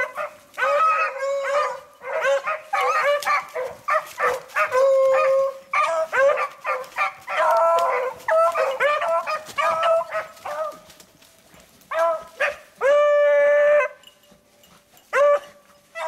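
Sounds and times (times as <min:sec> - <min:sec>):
dogs baying and barking: 0:00.0 - 0:16.0.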